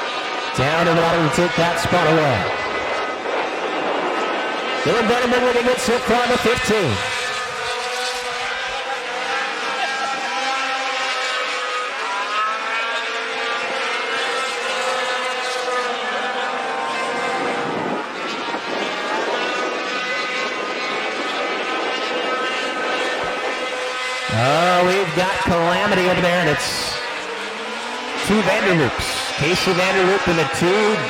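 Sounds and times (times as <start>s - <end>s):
racing truck engines: 0.0s - 31.0s.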